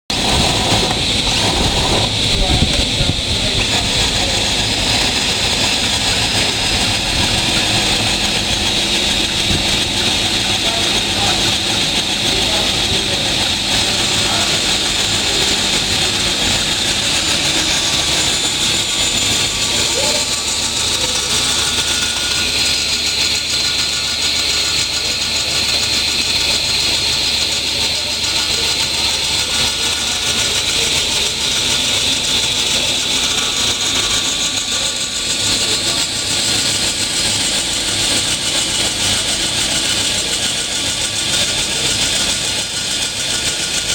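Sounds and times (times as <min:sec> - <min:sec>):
table saw running: 0:00.1 - 0:43.9.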